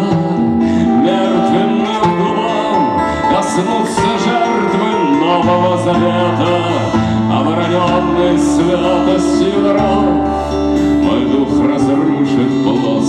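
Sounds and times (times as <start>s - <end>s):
acoustic guitar playing chords: 0.0s - 13.0s.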